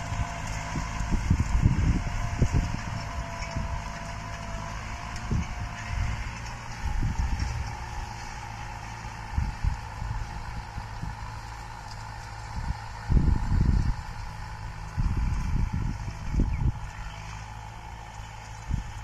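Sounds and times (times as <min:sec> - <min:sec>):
distant tractor engine running: 0:00.0 - 0:19.0
wind buffeting microphone: 0:00.0 - 0:19.0.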